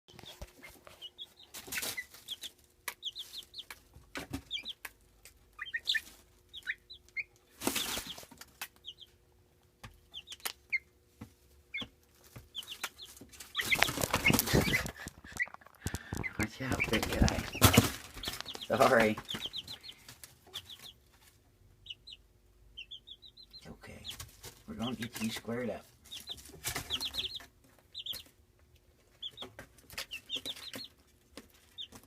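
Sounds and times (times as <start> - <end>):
chick peeping: 0.1 - 32.0.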